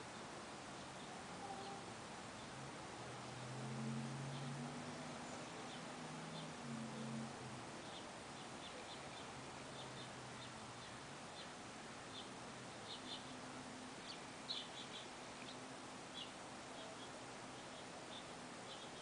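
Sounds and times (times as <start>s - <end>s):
bird chirping: 1.0s - 2.6s, 3.4s - 19.0s
low hum: 1.0s - 18.3s.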